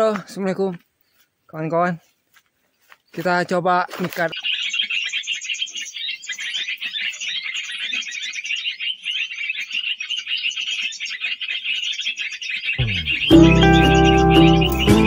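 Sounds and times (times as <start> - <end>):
small birds twittering: 0.0 - 15.0.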